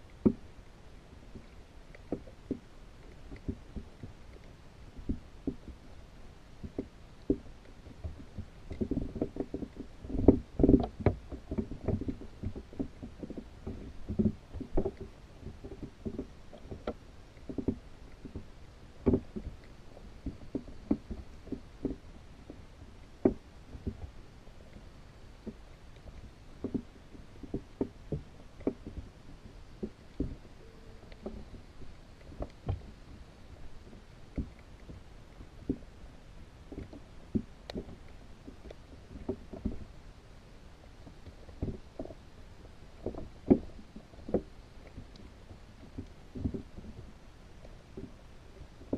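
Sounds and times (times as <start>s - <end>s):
dull knocks and taps underwater: 0.0s - 0.5s, 1.3s - 5.9s, 6.6s - 35.9s, 36.7s - 40.0s, 41.0s - 42.2s, 43.0s - 48.9s.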